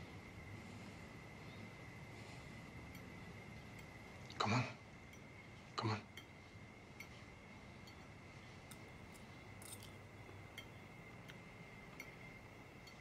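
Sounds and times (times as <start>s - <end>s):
thin steady high tone: 0.0s - 13.0s.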